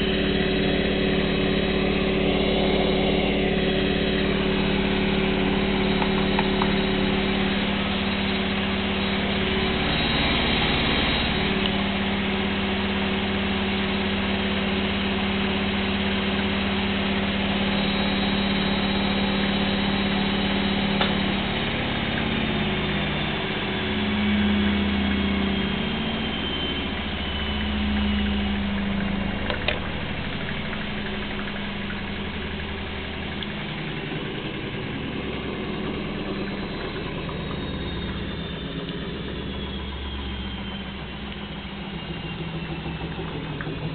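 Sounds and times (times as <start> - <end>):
washing machine spin cycle: 0.0 - 43.9.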